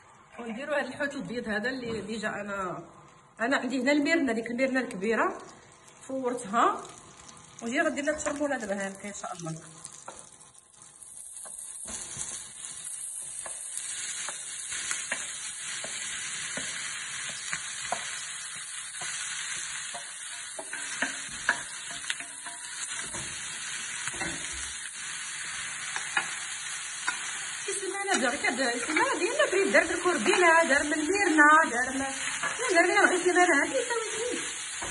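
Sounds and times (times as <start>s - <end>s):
fish sizzling in a frying pan: 5.7s - 34.9s.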